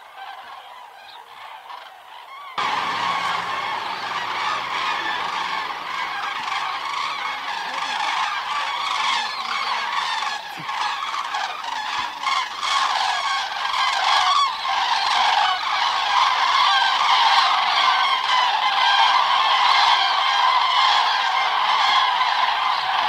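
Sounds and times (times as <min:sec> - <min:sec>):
cranes trumpeting: 0:00.4 - 0:23.0.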